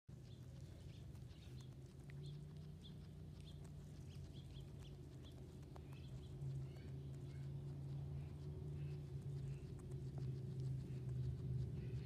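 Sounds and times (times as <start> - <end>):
guinea pig chewing grass: 0.1 - 12.0
low steady hum: 0.1 - 12.0.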